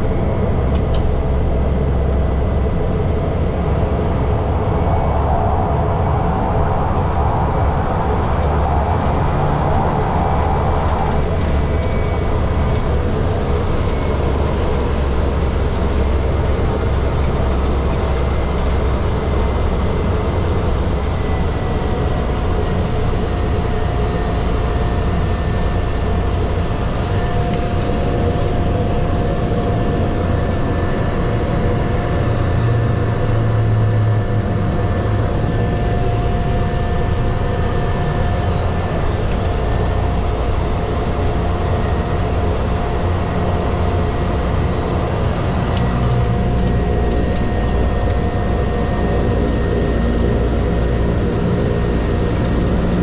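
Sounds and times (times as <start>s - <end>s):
airliner engine drone: 0.0s - 53.0s
thin constant whine: 0.0s - 53.0s.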